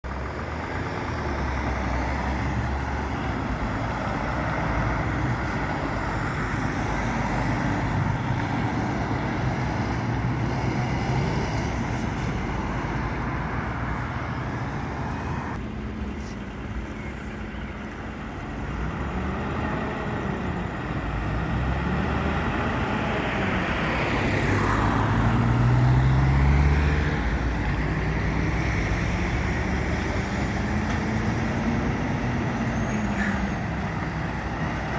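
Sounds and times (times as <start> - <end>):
truck engines running: 0.0 - 34.9
vehicles passing: 0.0 - 34.9.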